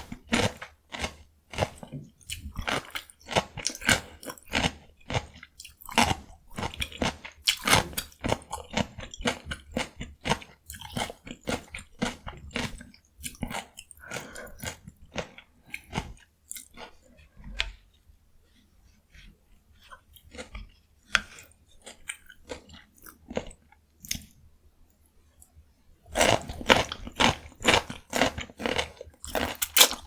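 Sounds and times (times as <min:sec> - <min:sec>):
chewing crisp cucumber: 0:00.0 - 0:17.9, 0:19.1 - 0:24.4, 0:25.4 - 0:30.0.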